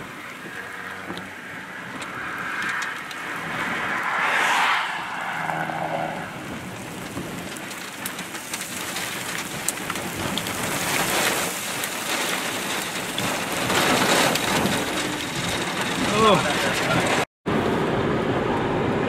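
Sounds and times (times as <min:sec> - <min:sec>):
heavy rain on vehicle: 0:00.0 - 0:04.1, 0:06.3 - 0:19.0
rain drop hits: 0:00.0 - 0:04.2, 0:05.9 - 0:18.1.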